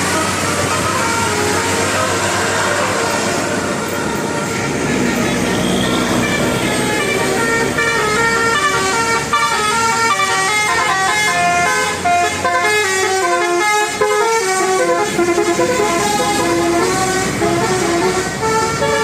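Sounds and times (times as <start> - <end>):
bus horn playing a fast melody: 0.0 - 19.0.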